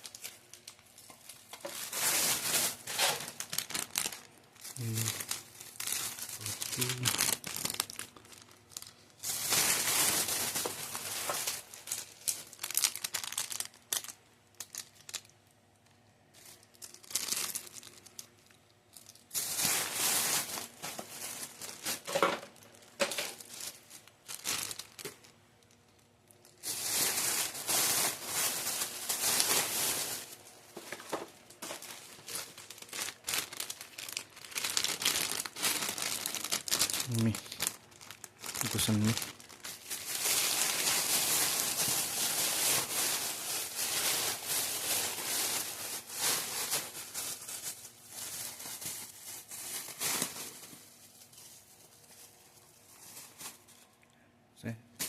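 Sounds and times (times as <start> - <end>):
plastic wrappers crinkling: 0.0 - 54.2.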